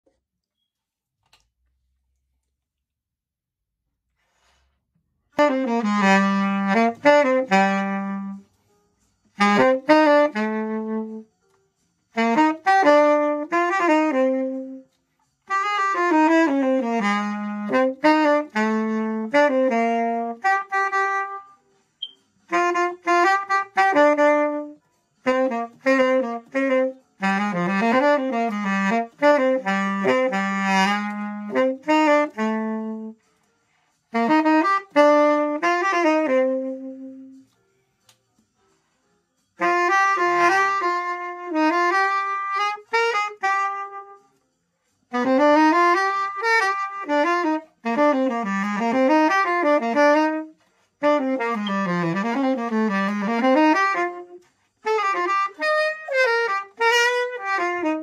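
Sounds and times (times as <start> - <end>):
tenor saxophone playing jazz: 5.3 - 8.6, 9.3 - 11.3, 12.1 - 33.2, 34.0 - 37.5, 39.6 - 44.4, 45.1 - 58.0.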